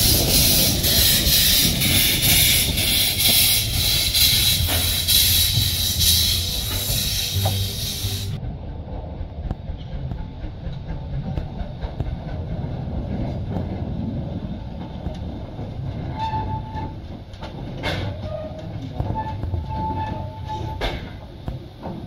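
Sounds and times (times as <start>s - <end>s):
steam locomotive rumbling: 0.0s - 22.0s.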